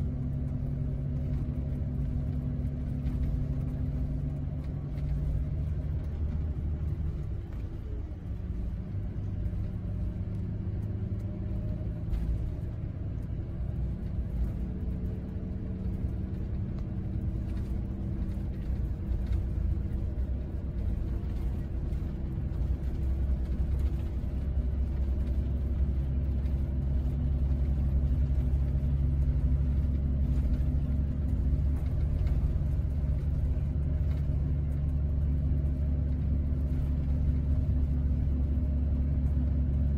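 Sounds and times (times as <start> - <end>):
diesel engine droning: 0.0 - 39.9
tyre noise on highway: 0.0 - 39.9.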